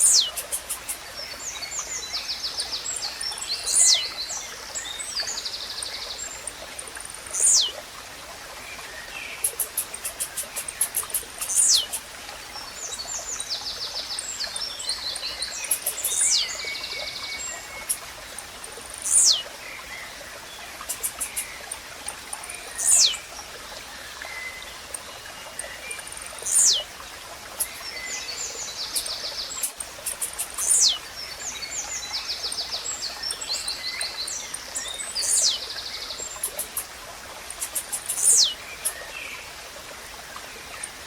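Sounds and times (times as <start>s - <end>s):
small birds rapid high trills: 0.0s - 7.8s, 8.8s - 39.6s
running water hiss: 0.0s - 41.0s.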